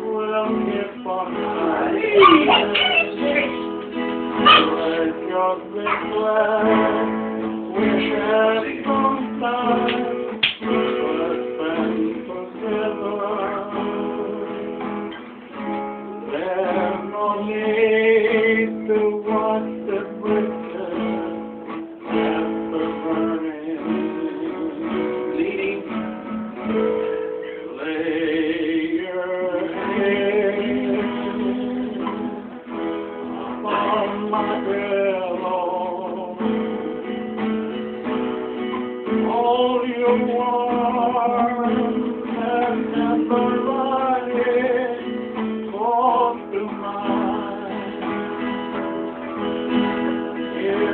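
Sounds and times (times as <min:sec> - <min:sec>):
men singing: 0:00.0 - 0:14.8, 0:16.2 - 0:26.1, 0:27.1 - 0:37.1, 0:39.0 - 0:50.9
acoustic guitar strummed and picked: 0:00.0 - 0:50.9.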